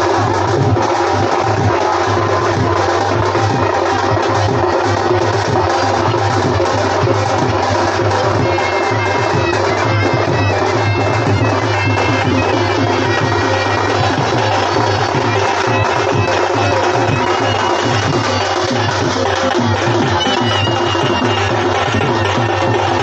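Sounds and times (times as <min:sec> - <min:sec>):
reedy wind instrument melody: 0:00.0 - 0:23.0.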